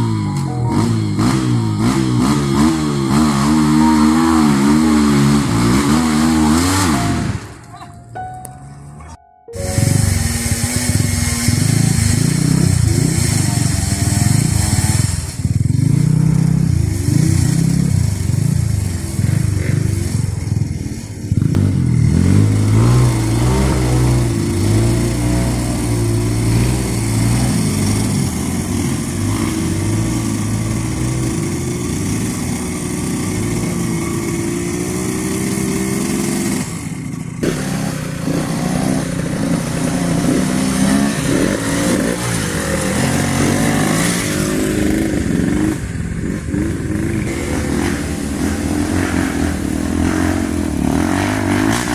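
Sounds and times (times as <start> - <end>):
motorcycle engines revving: 0.0 - 7.8, 9.6 - 51.9.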